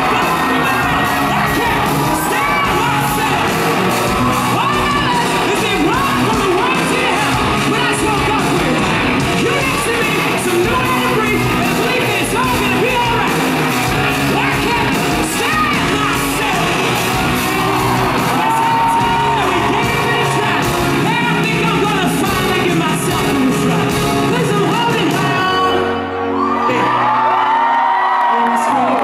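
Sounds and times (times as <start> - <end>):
man singing lead vocal: 0.0 - 13.4, 14.3 - 27.3
live pop-rock band: 0.0 - 29.0.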